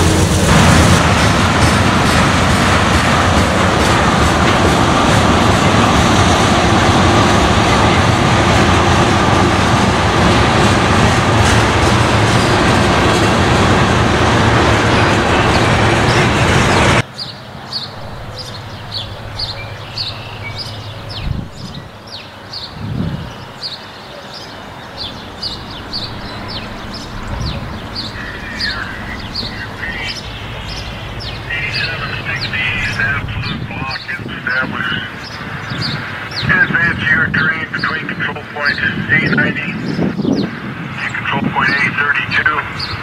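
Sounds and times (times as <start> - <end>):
freight train rumbling and rattling: 0.0 - 43.0.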